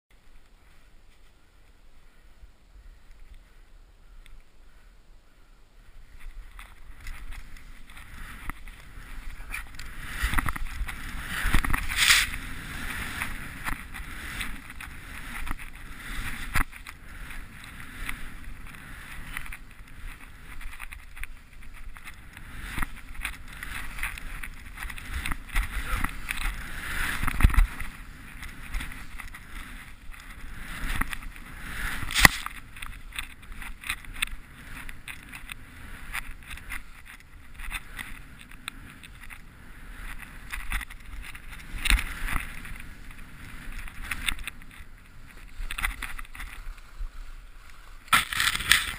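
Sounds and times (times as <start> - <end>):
skis swishing through snow: 5.9 - 48.9.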